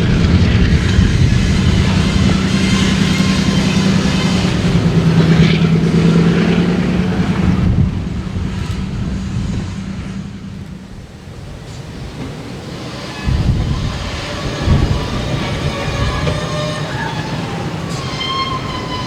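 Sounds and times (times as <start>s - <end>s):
diesel locomotive droning: 0.0s - 19.0s.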